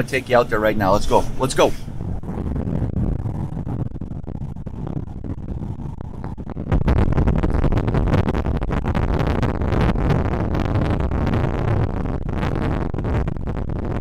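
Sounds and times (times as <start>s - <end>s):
gusting wind buffeting microphone: 0.0s - 14.0s.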